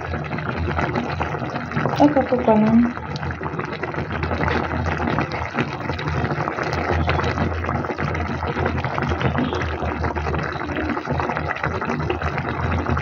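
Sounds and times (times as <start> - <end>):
stew bubbling in a pot: 0.0 - 13.0.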